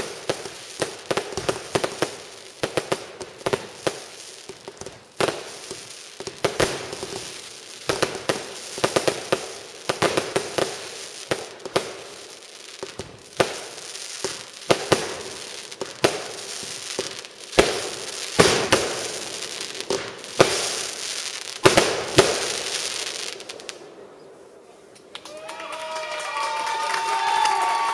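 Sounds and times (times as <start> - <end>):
fireworks bangs: 0.0 - 24.5
fireworks crackling: 0.0 - 27.9.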